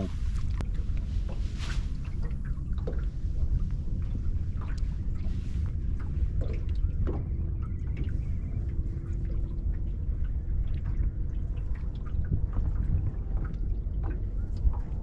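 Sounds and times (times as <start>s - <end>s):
water lapping and dripping: 0.0s - 15.0s
wind rumble on microphone: 0.0s - 15.0s.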